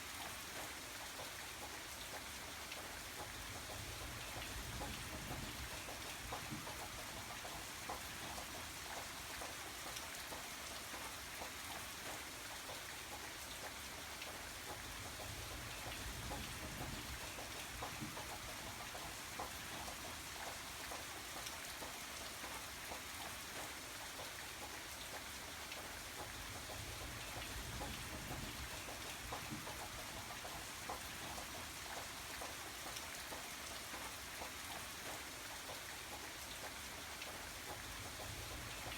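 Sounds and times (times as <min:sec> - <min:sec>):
rain drops pattering: 0:00.0 - 0:38.9.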